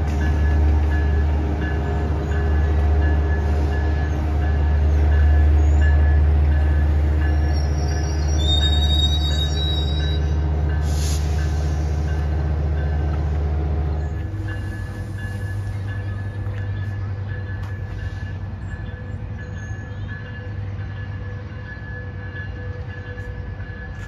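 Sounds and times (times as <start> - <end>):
train bell ringing: 0.0 - 24.0
train engine rumble: 0.0 - 24.0.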